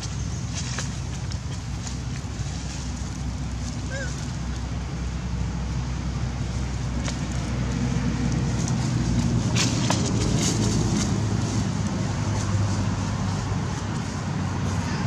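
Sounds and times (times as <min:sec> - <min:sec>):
crackling rustle: 0:00.0 - 0:05.4, 0:06.4 - 0:15.0
low engine drone: 0:00.0 - 0:15.0.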